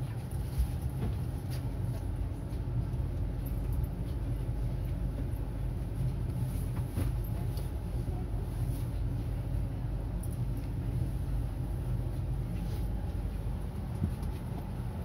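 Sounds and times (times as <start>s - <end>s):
tram rumble from inside: 0.0s - 15.0s.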